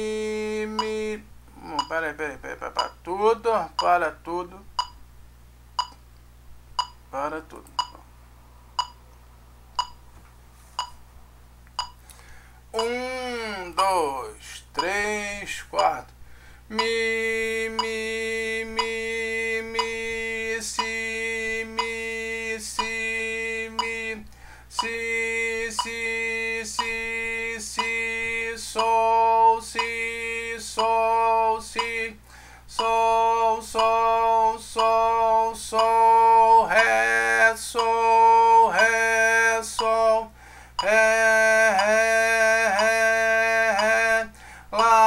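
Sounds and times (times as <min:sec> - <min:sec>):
man chanting in rhythm: 0:00.0 - 0:04.7, 0:12.8 - 0:16.1, 0:16.7 - 0:45.0.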